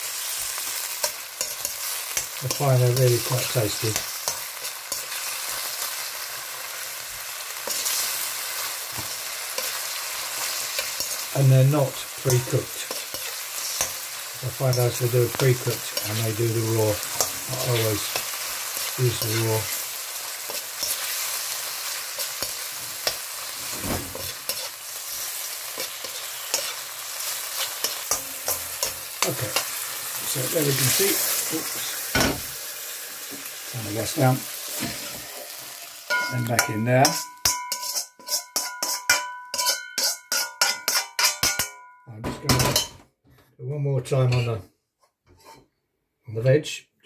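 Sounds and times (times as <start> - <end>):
prawns sizzling in a wok: 0.0 - 41.7.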